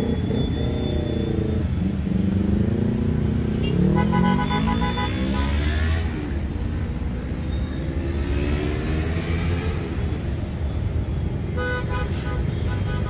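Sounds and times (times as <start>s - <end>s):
vehicles accelerating past: 0.0s - 11.5s
road traffic rumble: 0.0s - 13.0s.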